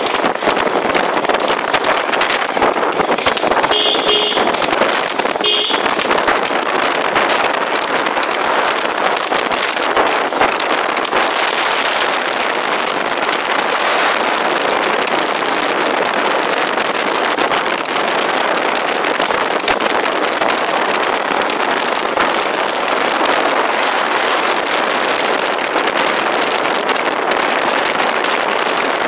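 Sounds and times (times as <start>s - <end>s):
sharp clicks and knocks: 0.0s - 29.0s
wind rush over microphone: 0.0s - 29.0s.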